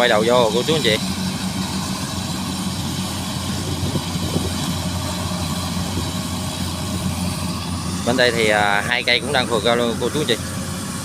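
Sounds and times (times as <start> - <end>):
continuous rushing noise: 0.0 - 11.0
harvester engine droning: 0.0 - 11.0.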